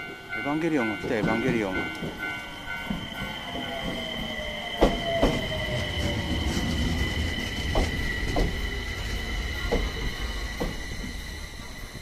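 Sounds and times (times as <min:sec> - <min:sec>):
train wheels squealing: 0:01.4 - 0:12.0.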